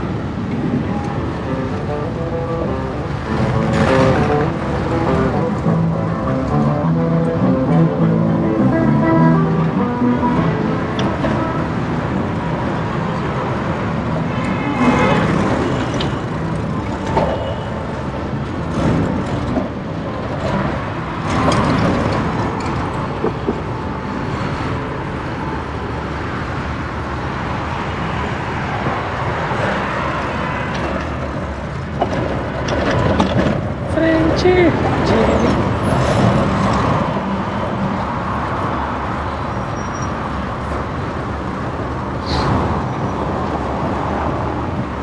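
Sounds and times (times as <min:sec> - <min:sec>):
cars and buses passing: 0:00.0 - 0:45.0.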